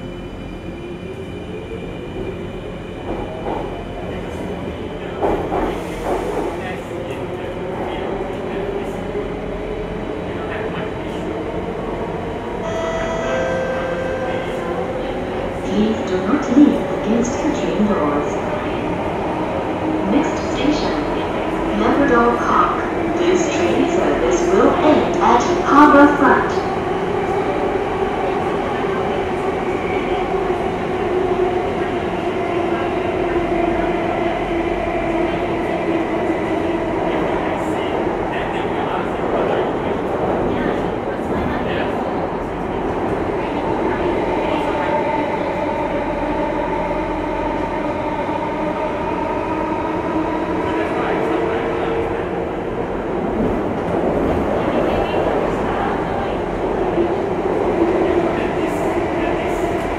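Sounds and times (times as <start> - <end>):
train rumbling in tunnel: 0.0 - 59.9.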